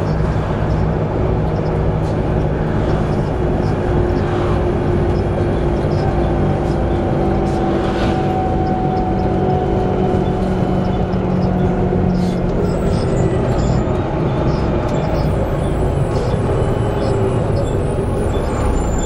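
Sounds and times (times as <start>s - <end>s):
bus engine rumble: 0.0s - 19.0s
drivetrain whine: 0.0s - 19.0s.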